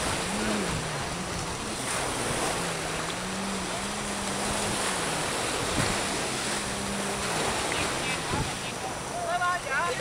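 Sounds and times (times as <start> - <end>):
wind buffeting microphone: 0.0 - 8.8
surf washing on beach: 0.0 - 10.0.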